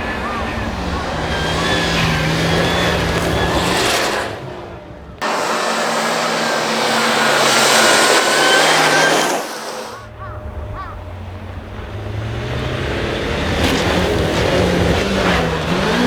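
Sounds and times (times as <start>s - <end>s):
rally car engine running hard: 0.0s - 9.2s, 9.9s - 16.0s.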